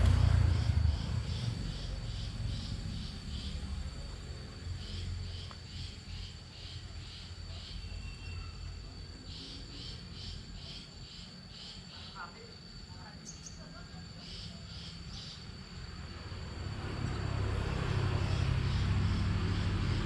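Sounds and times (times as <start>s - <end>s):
insects chirping rhythmically: 0.0s - 20.0s.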